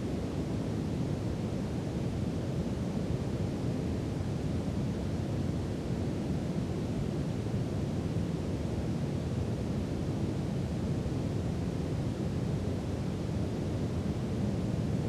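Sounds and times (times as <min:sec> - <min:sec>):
deep brown noise hiss: 0:00.0 - 0:15.0.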